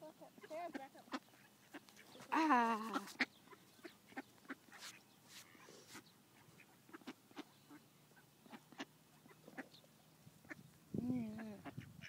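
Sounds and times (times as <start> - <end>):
ducks quacking: 0.0 - 9.8, 10.4 - 10.7, 11.3 - 12.0.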